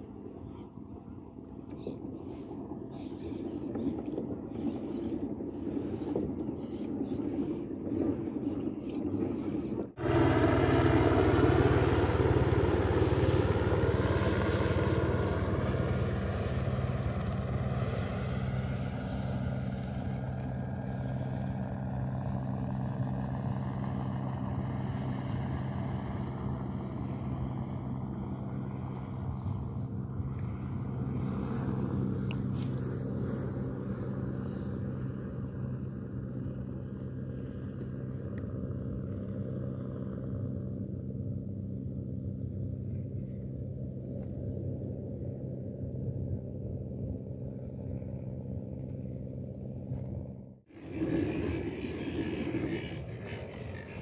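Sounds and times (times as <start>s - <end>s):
wind: 0.0s - 54.0s
motorboat engine passing: 9.2s - 54.0s.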